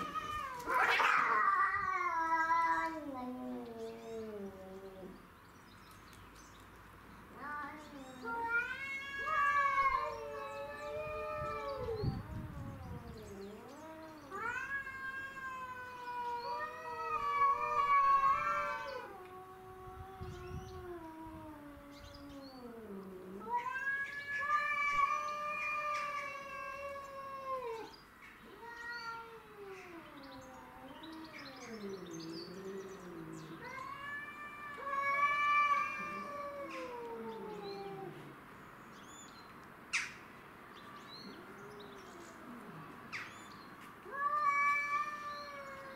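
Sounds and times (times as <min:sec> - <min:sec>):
cats yowling: 0:00.0 - 0:05.2, 0:07.3 - 0:38.4, 0:41.2 - 0:43.3, 0:44.0 - 0:45.9.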